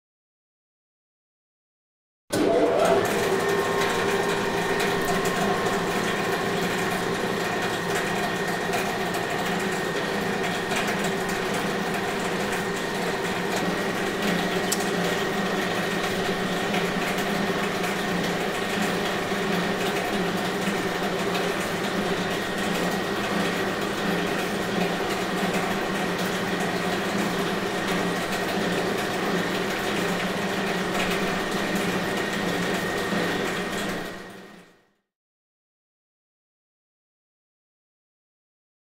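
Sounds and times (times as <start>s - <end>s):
conveyor machine hum: 2.3s - 34.7s.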